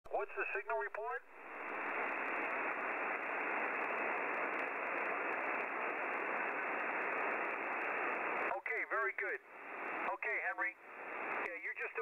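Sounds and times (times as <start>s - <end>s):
shortwave radio hiss: 0.1s - 12.0s.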